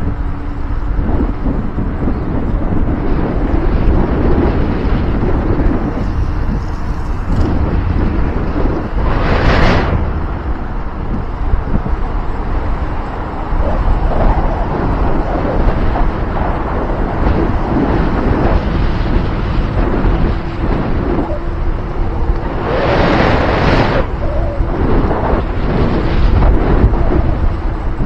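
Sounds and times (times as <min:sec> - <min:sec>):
rumbling vehicle and road noise: 0:00.0 - 0:28.0
wind buffeting the microphone: 0:00.0 - 0:28.0.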